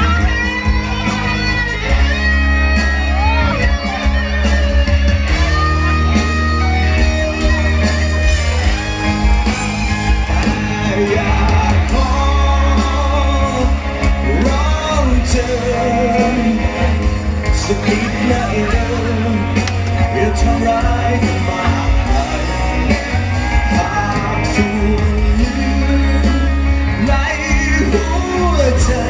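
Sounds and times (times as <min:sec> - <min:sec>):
bass and drums: 0:00.0 - 0:29.0
electric guitar lead: 0:00.0 - 0:29.0.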